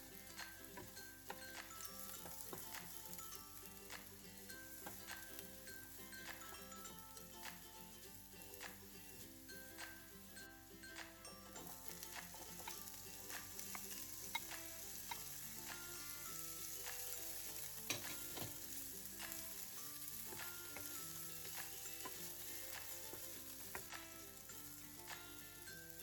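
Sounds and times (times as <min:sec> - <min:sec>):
food sizzling in a frying pan: 0:00.0 - 0:26.0
utensil clicking on pan: 0:00.0 - 0:26.0.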